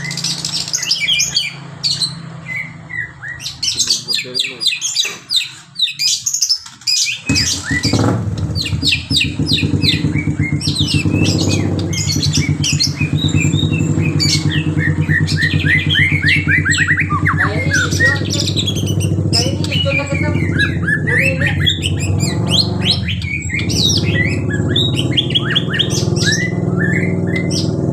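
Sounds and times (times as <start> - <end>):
bird singing whistles and chatter: 0.0 - 27.8.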